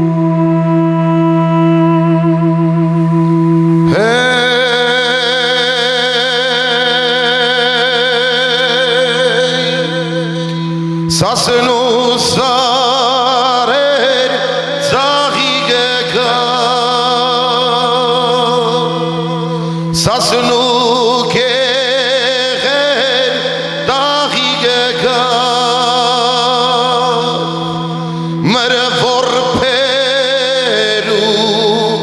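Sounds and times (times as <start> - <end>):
man singing with vibrato: 0.0 - 32.0
steady low drone: 0.0 - 32.0.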